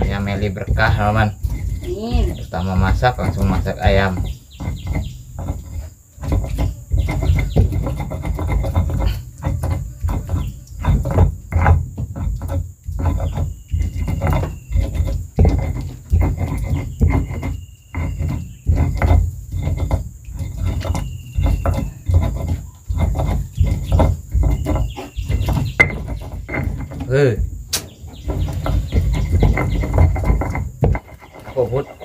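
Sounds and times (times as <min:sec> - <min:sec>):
high insect drone: 0:00.0 - 0:32.0
loud irregular knocks: 0:00.0 - 0:32.0
rustling: 0:00.0 - 0:32.0.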